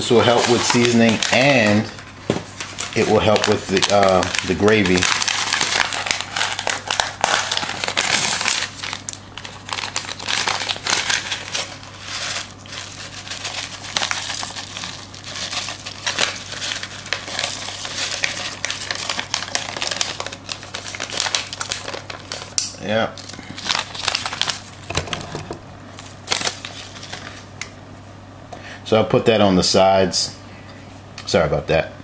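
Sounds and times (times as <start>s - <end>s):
packet crinkling and rustling: 0.0s - 27.5s
steady low hum: 0.0s - 32.0s.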